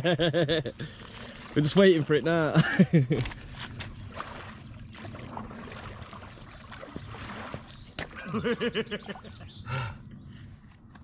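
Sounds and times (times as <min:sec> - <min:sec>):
water sloshing and trickling: 0:00.6 - 0:09.5.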